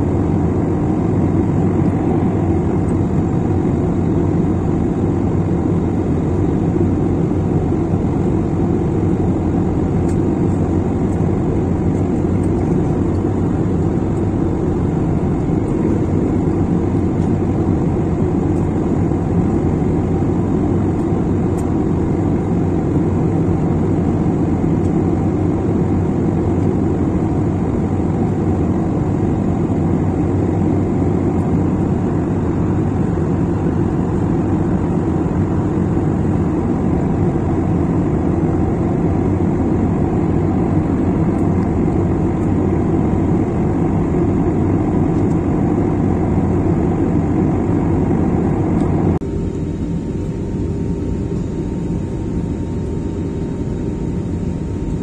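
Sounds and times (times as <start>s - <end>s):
jet cabin engine rumble: 0.0s - 55.0s.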